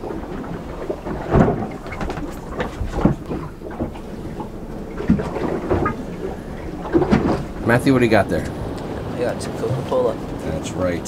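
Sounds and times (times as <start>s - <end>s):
knocks and thumps on boat: 0.0s - 11.0s
low rumble: 0.0s - 11.0s.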